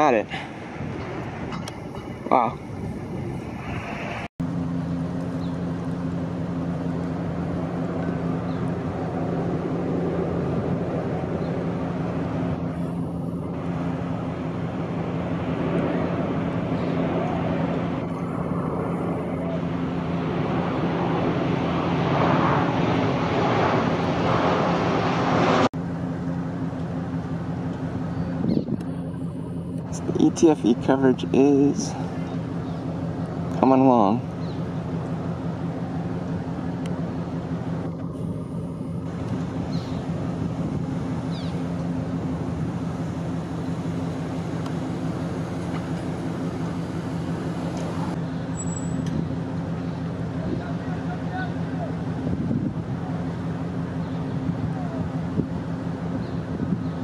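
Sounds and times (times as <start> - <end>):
low engine hum: 0.0 - 57.0
traffic noise: 0.0 - 57.0.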